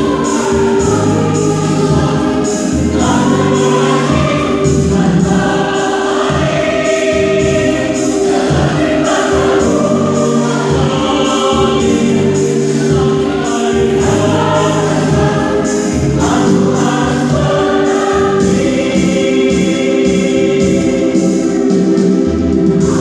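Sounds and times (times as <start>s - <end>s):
mixed choir singing chords: 0.0s - 23.0s.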